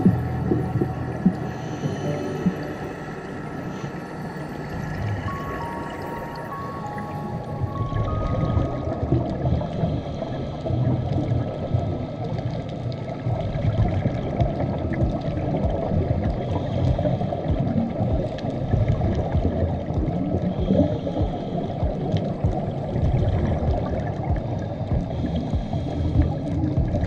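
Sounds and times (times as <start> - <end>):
underwater rushing and bubbling: 0.0 - 27.0.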